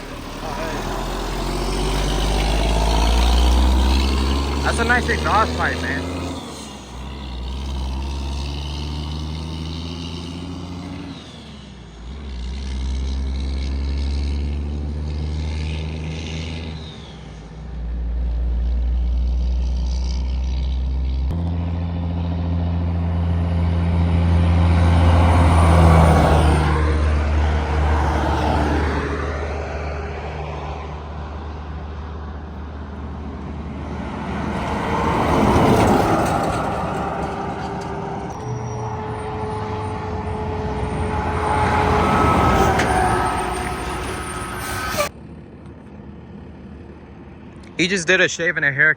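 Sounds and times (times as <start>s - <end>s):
trucks passing on highway: 0.0s - 48.9s.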